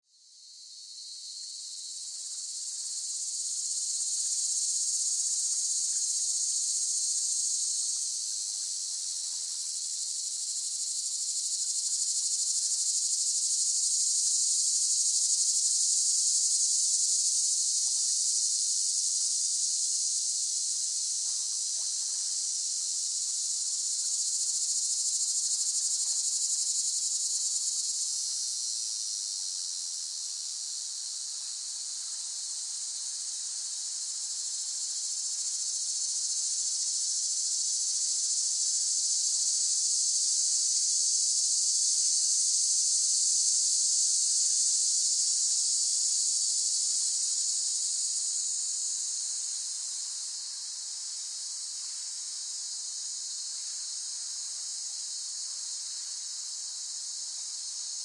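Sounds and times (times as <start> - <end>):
cicadas buzzing: 0.4 - 20.7, 21.3 - 37.9, 38.7 - 58.0.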